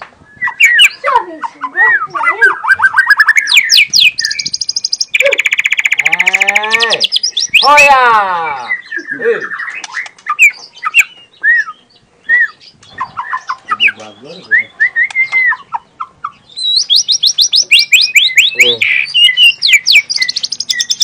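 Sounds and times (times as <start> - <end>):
songbird whistling and chirping: 0.2 - 21.0.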